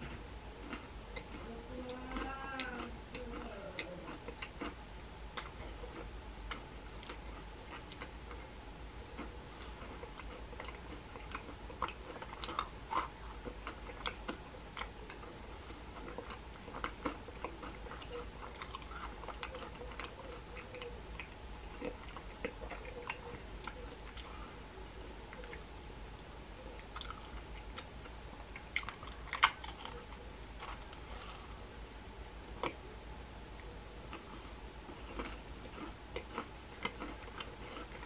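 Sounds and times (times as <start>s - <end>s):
chewing clicks and crackles: 0.0s - 4.8s, 5.4s - 24.4s, 25.3s - 25.6s, 26.2s - 31.6s, 33.6s - 38.0s
low electrical hum: 0.0s - 38.0s.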